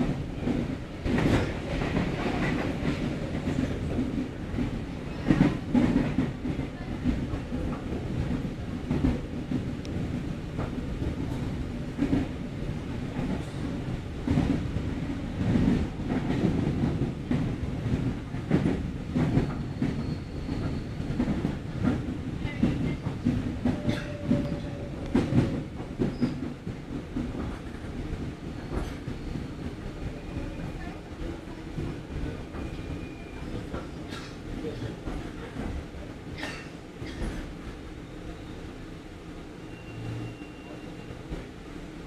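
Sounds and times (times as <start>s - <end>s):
train rumbling: 0.0s - 42.0s.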